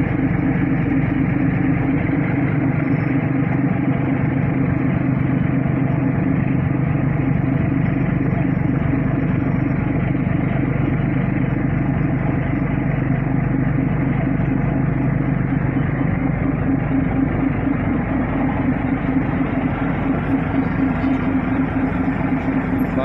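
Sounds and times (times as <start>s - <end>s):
ferry engines droning: 0.0s - 23.0s.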